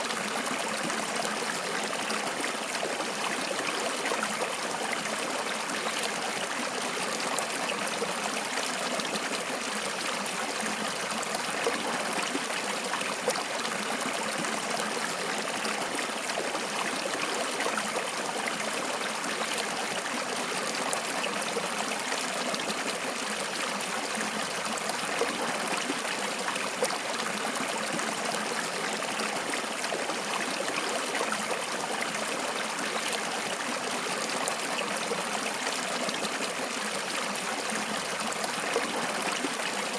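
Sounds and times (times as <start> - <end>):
stream water flowing and trickling: 0.0 - 39.9.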